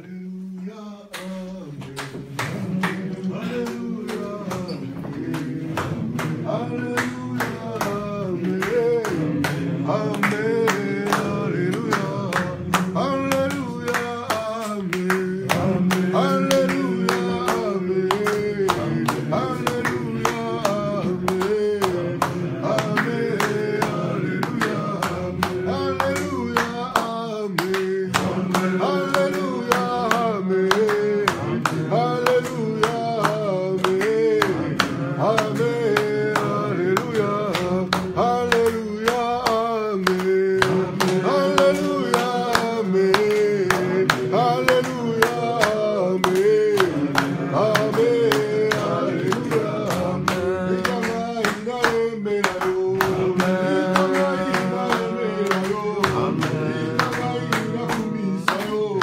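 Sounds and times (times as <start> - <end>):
group singing a hymn: 0.0 - 59.0
hand-clapping in time: 1.1 - 59.0.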